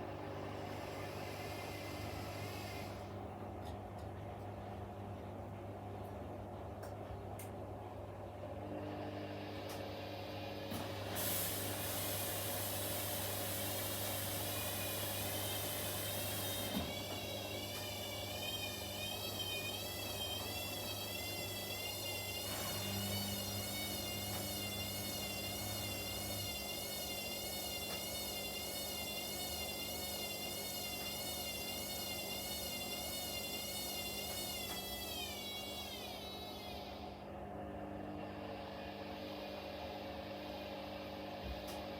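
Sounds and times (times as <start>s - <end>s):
washing machine motor whine: 0.0s - 41.9s.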